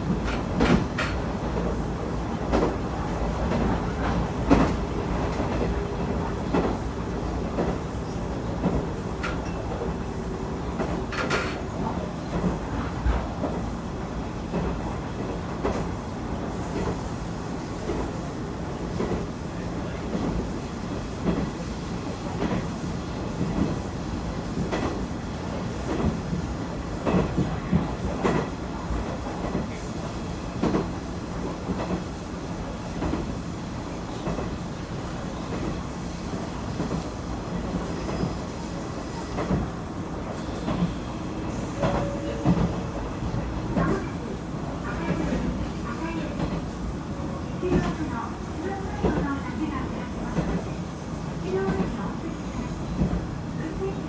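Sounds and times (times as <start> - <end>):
railcar running rumble and engine hum: 0.0 - 54.0.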